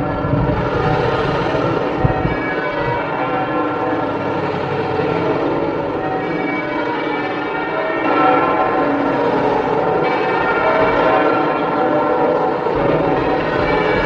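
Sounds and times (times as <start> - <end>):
church bells pealing: 0.0 - 14.0.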